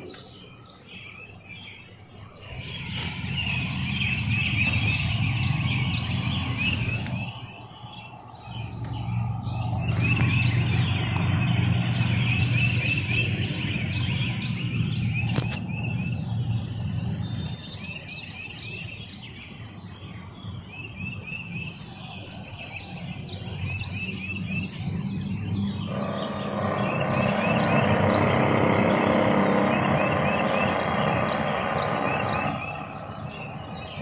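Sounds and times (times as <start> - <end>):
steady low rumble: 0.0 - 18.7, 22.3 - 34.0
small birds chirping: 0.0 - 34.0.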